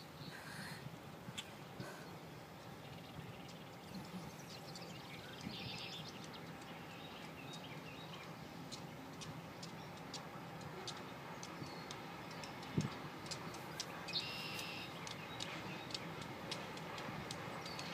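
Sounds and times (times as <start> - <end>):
songbirds chirping: 0.0 - 17.9.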